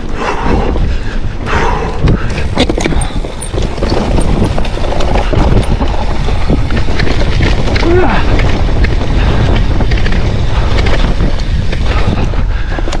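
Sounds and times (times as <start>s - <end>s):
constant low rumble: 0.0s - 13.0s
bike knocks and rattles: 2.1s - 13.0s.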